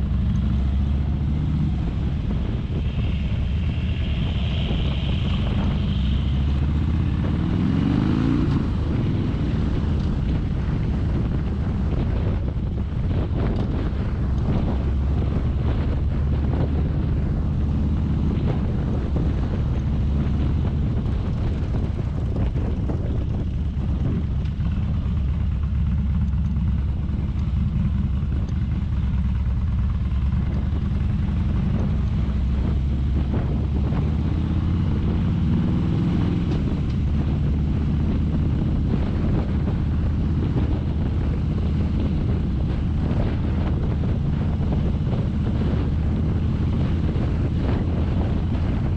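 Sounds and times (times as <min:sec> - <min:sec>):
motorcycle engine: 0:00.0 - 0:48.9
wind rush on microphone: 0:00.0 - 0:48.9.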